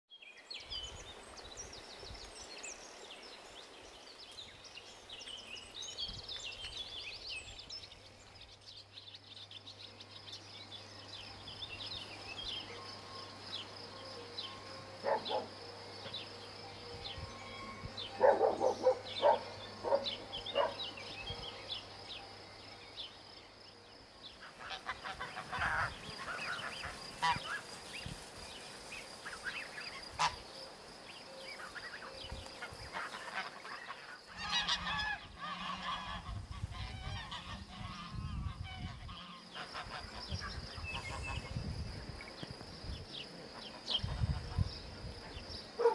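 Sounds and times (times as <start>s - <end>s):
small birds chirping: 0.1s - 45.9s.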